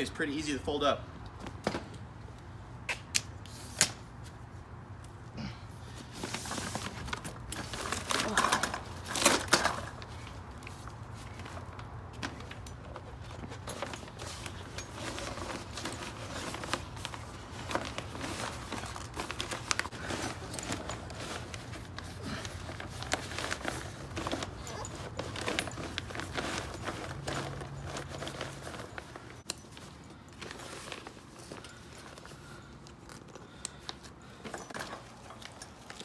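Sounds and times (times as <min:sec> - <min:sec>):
nylon bag rustling and crinkling: 0:06.0 - 0:36.0.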